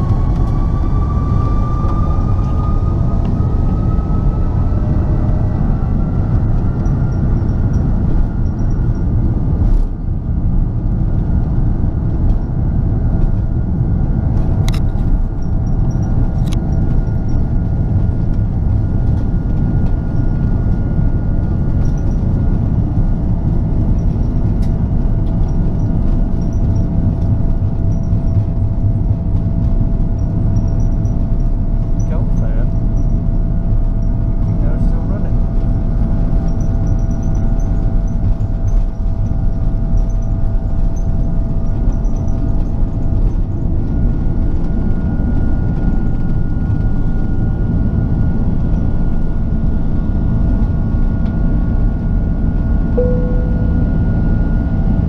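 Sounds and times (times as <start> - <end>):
jet engine whine: 0.0 - 55.0
low rumble of aircraft taxiing: 0.0 - 55.0.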